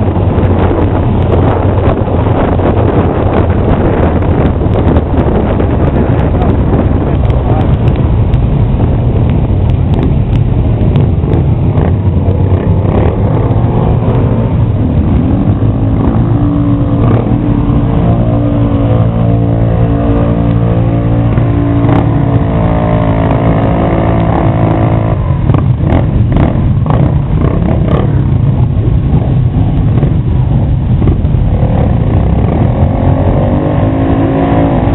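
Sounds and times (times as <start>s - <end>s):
motorcycle engine revving: 0.0s - 34.9s
motorcycle engines running: 0.0s - 34.9s.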